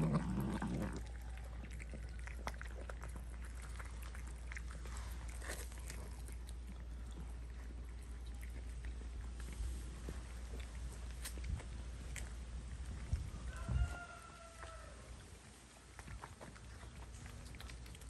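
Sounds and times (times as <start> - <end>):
cats chewing food: 0.0 - 18.0.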